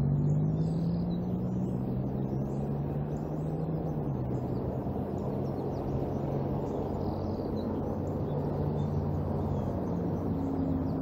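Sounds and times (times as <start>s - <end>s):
faint songbird chirps: 0.0s - 11.0s.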